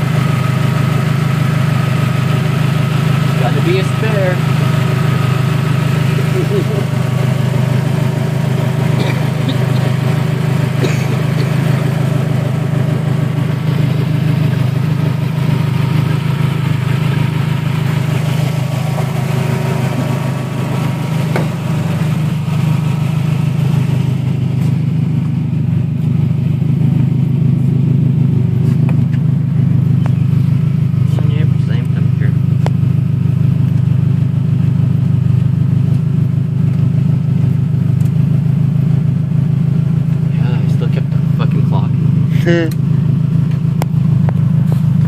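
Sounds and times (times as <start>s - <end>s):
car engine idling loudly: 0.0s - 45.0s.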